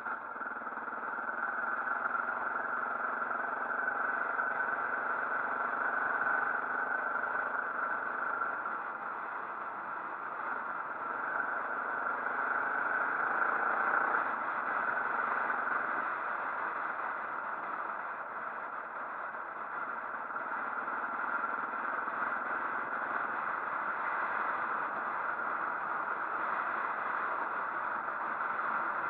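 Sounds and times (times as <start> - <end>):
motorcycle engine running: 0.0 - 29.0
steady rushing noise: 0.0 - 29.0.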